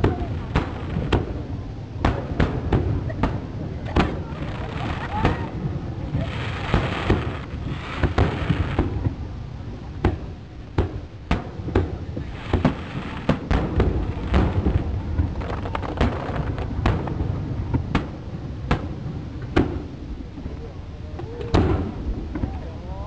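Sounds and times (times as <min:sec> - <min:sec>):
fireworks bangs: 0:00.0 - 0:20.6, 0:21.4 - 0:22.6
fireworks crackle: 0:00.0 - 0:22.8
low rumble: 0:00.0 - 0:23.0.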